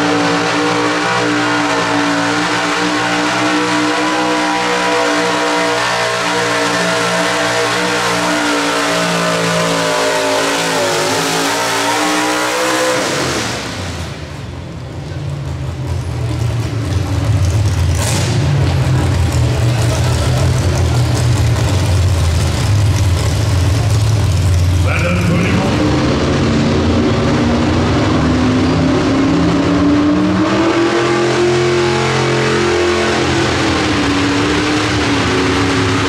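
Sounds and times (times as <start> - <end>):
truck engine at high revs: 0.0 - 36.0.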